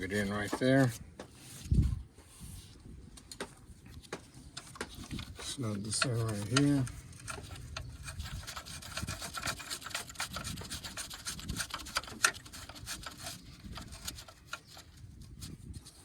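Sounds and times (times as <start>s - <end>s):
hard parts scraping and clicking: 0.0s - 2.4s, 3.1s - 16.0s.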